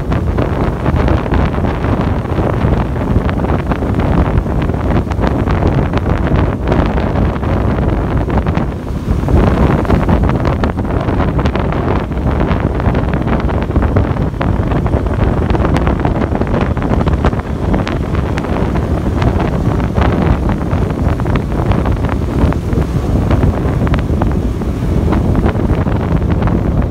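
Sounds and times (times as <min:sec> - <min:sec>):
vehicle and road rumble: 0:00.0 - 0:26.9
wind buffeting the microphone: 0:00.0 - 0:26.9.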